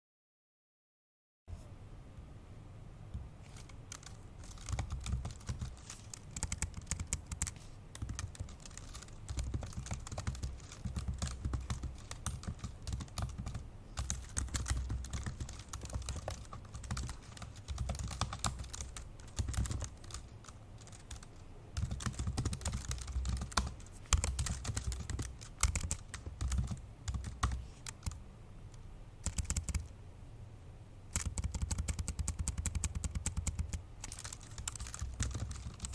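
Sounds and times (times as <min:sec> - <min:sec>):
fast typing on laptop keyboard: 0:03.5 - 0:28.2, 0:29.2 - 0:29.9, 0:31.1 - 0:35.9.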